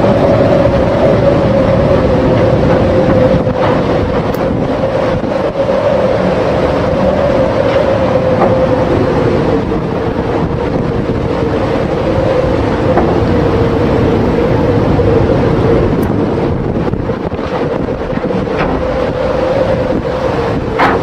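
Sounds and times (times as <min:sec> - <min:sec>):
heavy waves breaking: 0:00.0 - 0:21.0
storm wind buffeting microphone: 0:00.0 - 0:21.0
wind howling tone: 0:00.0 - 0:21.0.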